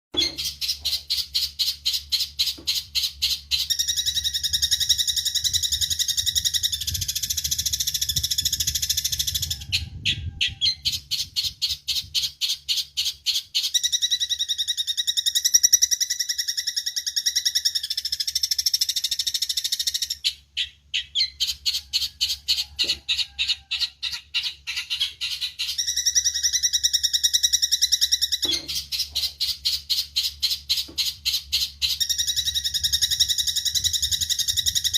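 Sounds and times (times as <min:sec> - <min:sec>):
sparrows chattering: 0:00.1 - 0:34.9
sparrows chirping: 0:00.1 - 0:34.9.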